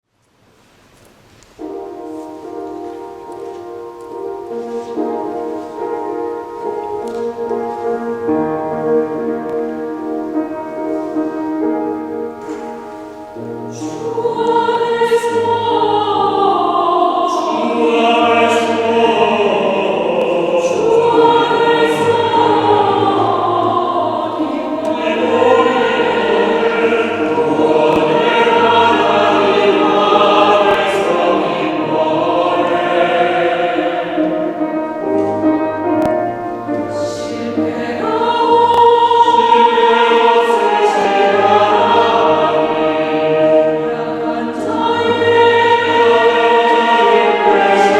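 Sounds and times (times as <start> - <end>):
low accompanying notes: 1.3 - 47.9
church choir singing: 1.5 - 47.9.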